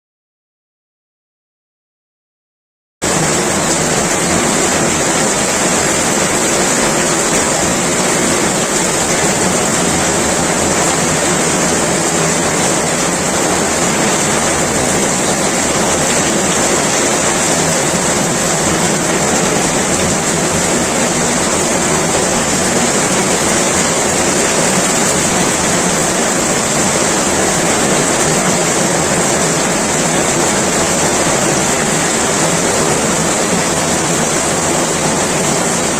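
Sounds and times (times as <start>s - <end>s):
heavy rain pouring: 3.0s - 35.9s.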